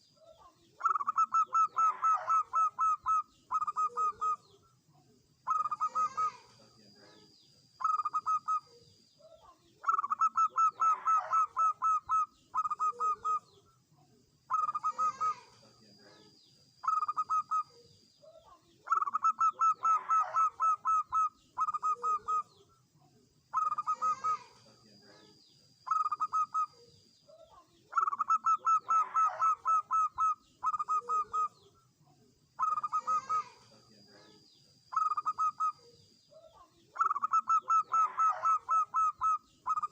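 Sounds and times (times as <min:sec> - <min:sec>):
dove cooing: 0:00.0 - 0:04.7, 0:05.4 - 0:13.6, 0:14.5 - 0:22.6, 0:23.5 - 0:31.8, 0:32.6 - 0:39.9
faint high chirping: 0:00.0 - 0:39.9.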